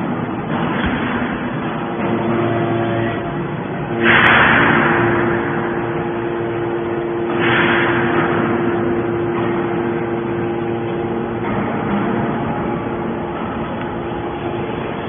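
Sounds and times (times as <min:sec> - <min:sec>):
baler pump motor hum: 0:00.0 - 0:15.0.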